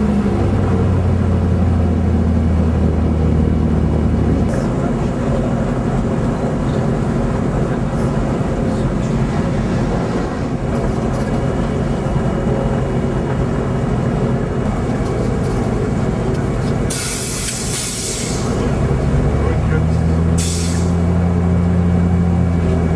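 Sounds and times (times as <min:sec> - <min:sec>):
aircraft piston engines droning: 0:00.0 - 0:22.9.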